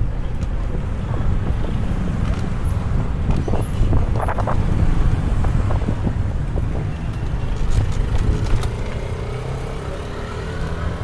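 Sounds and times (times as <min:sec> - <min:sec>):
road traffic rumble: 0:00.0 - 0:11.0
vehicle engine hum: 0:00.0 - 0:11.0.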